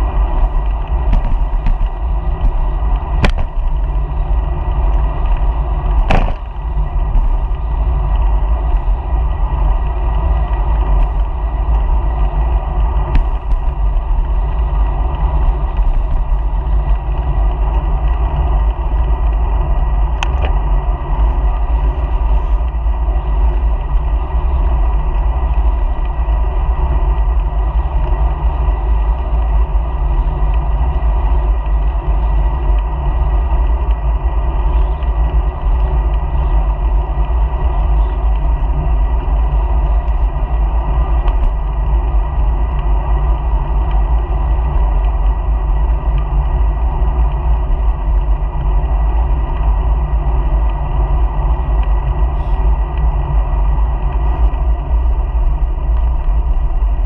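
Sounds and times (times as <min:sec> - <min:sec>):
bicycle road noise: 0:00.0 - 0:57.0
deep wind rumble: 0:00.0 - 0:57.0.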